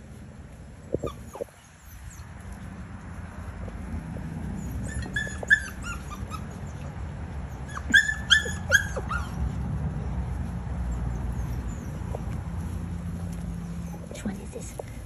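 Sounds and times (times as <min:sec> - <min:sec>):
puppies yipping: 0:00.8 - 0:14.2.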